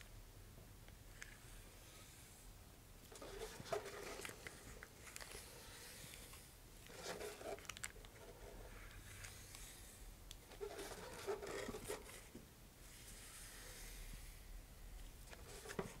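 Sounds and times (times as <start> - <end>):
gloved hands rustling and scraping: 3.1 - 16.0.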